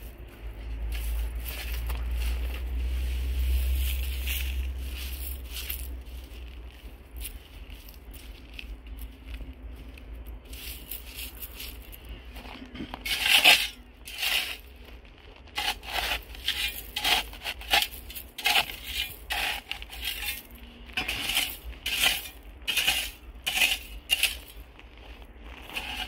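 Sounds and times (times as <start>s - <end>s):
shovel scraping gravelly soil: 0.0s - 26.0s.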